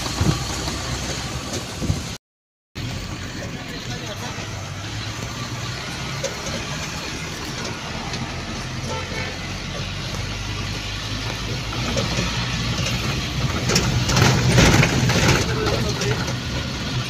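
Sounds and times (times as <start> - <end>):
road and wind noise: 0.0 - 2.2, 2.8 - 17.0
vehicle engine running: 0.0 - 2.2, 2.8 - 17.0.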